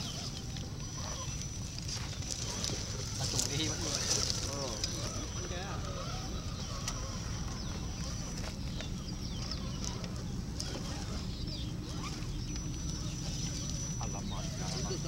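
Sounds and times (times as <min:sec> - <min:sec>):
bird-like chirps: 0:00.0 - 0:15.0.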